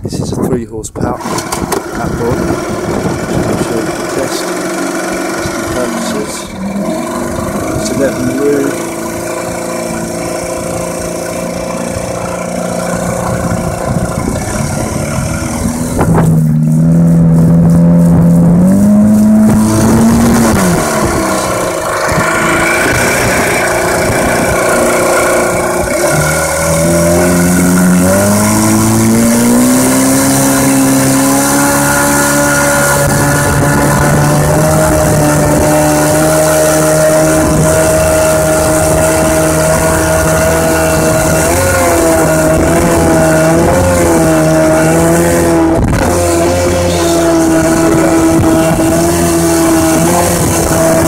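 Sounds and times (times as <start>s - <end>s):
outboard motor running: 1.0s - 51.0s.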